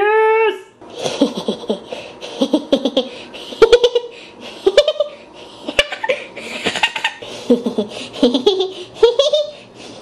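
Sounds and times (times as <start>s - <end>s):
person giggling high-pitched: 0.0s - 9.6s.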